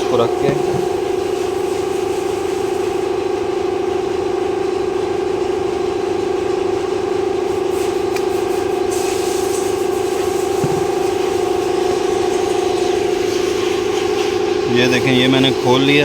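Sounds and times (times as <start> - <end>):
pump motor humming: 0.0 - 16.0.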